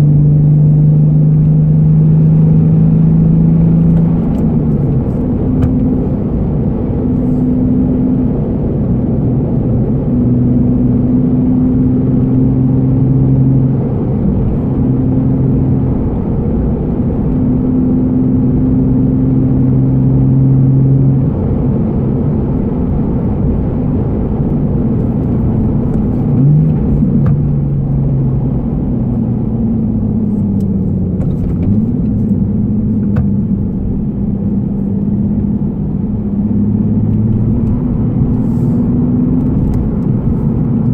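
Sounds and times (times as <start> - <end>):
car engine drone: 0.0 - 40.9
road rumble: 0.0 - 40.9.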